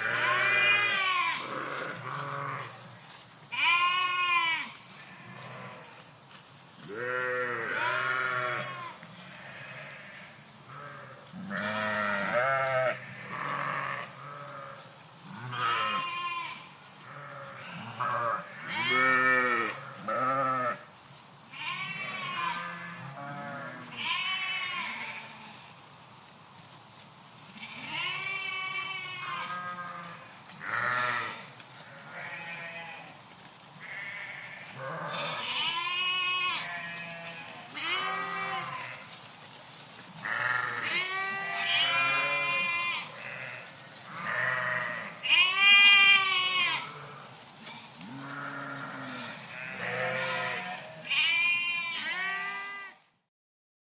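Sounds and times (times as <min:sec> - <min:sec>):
sheep bleating: 0:00.0 - 0:02.8, 0:03.5 - 0:06.0, 0:06.9 - 0:20.9, 0:21.5 - 0:25.6, 0:27.5 - 0:33.2, 0:33.8 - 0:39.1, 0:40.2 - 0:53.0.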